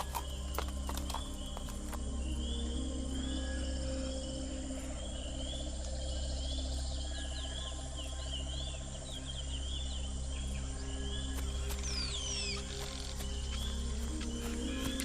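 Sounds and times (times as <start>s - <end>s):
crickets and insects chirping: 0.0s - 15.0s.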